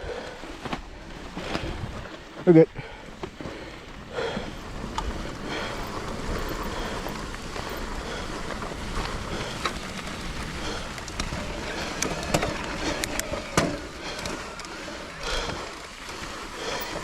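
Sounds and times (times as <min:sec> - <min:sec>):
bike rattling: 0:00.0 - 0:17.0
bike tyres crunching on gravel: 0:00.0 - 0:17.0
bike knocking over bumps: 0:02.8 - 0:17.0.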